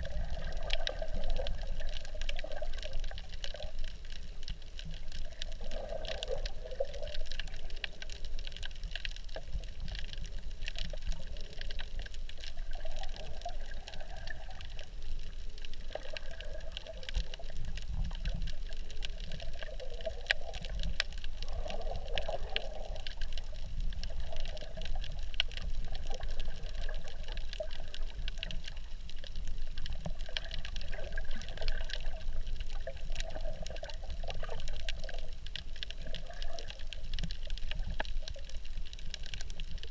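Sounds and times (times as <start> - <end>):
muffled underwater water movement: 0.0 - 39.9
small crackling clicks: 0.0 - 39.9.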